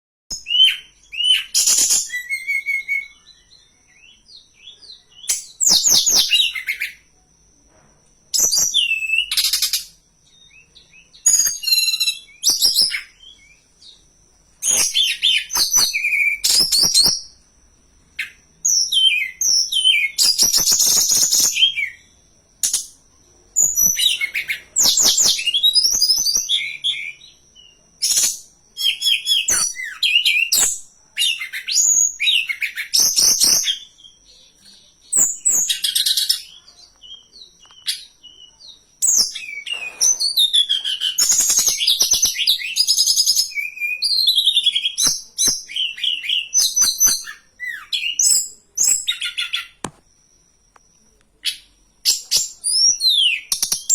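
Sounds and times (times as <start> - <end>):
songbird twittering song: 0.3 - 7.6, 8.2 - 53.9
faint steady high whine: 0.3 - 53.9.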